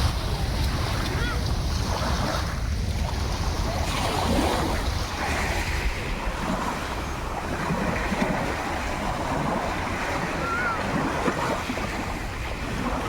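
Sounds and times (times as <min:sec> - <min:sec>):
sea waves washing on shore: 0:00.0 - 0:13.0
wind buffeting microphone: 0:00.0 - 0:13.0.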